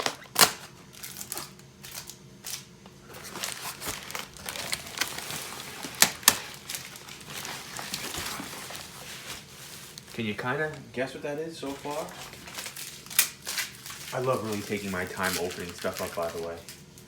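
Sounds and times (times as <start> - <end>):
bubble wrap snaps: 0.0 - 10.2, 11.7 - 17.0
bubble wrap crinkling: 0.0 - 17.0.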